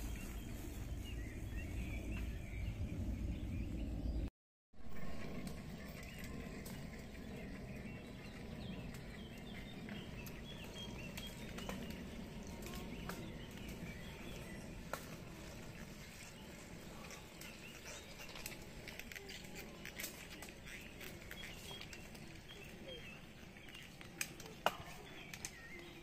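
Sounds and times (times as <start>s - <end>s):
bike tyres on dirt: 0.0s - 3.9s, 4.9s - 26.0s
birds chirping: 0.0s - 4.3s, 5.0s - 26.0s.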